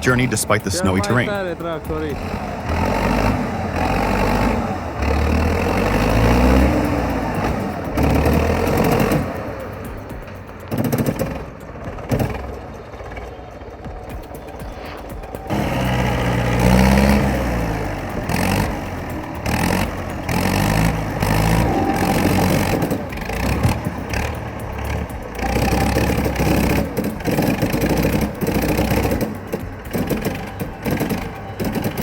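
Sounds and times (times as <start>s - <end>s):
heavy machine engine revving: 0.0s - 32.0s.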